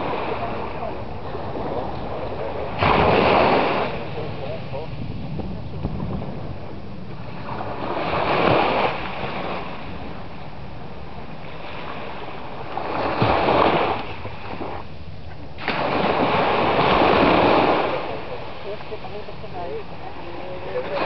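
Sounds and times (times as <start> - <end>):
waves washing onto sand: 0.0 - 21.0.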